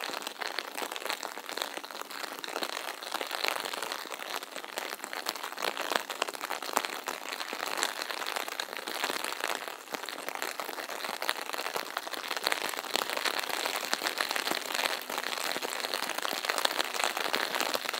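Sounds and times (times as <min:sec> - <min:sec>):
steady rain falling: 0:00.0 - 0:17.9.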